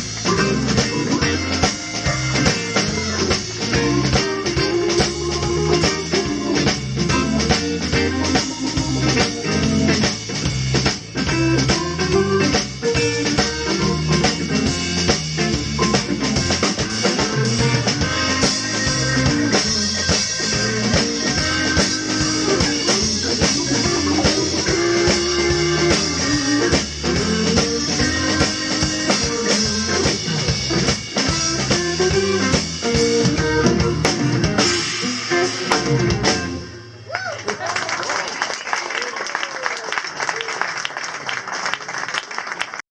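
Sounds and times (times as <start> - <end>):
organ trio playing blues: 0.0 - 37.1.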